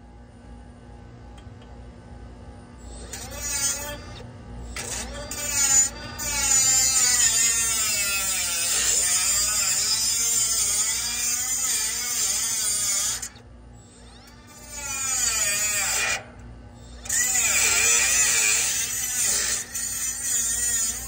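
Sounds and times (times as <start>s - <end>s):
mini grinder cutting metal: 2.9s - 16.3s, 16.9s - 21.0s.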